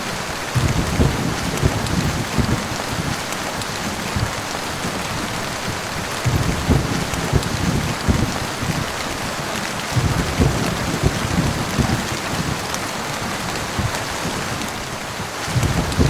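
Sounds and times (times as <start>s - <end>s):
heavy rain: 0.0s - 16.0s
thunder rumbling: 0.2s - 16.0s.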